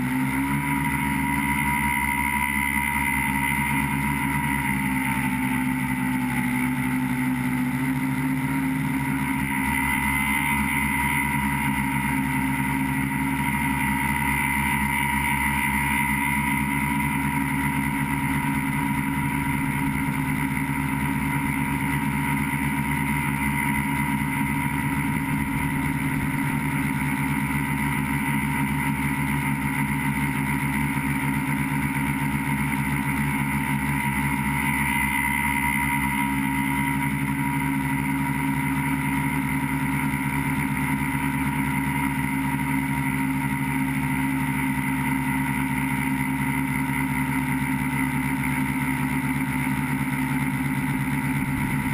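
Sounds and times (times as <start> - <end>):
drone propellers buzzing: 0.0 - 51.9.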